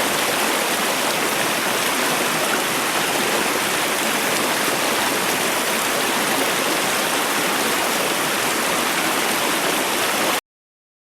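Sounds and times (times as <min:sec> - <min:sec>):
stream water rushing: 0:00.0 - 0:10.4.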